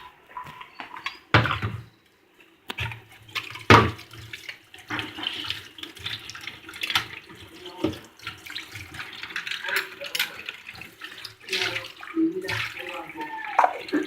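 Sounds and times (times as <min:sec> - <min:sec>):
tap water running into a sink: 0:02.7 - 0:14.0.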